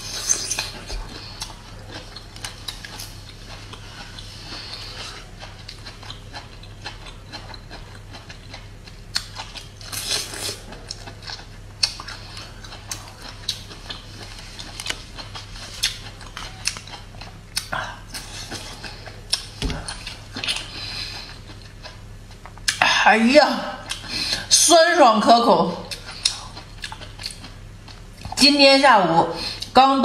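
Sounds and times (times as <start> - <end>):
crunching and chewing bamboo: 0.0 - 22.8, 25.9 - 28.4.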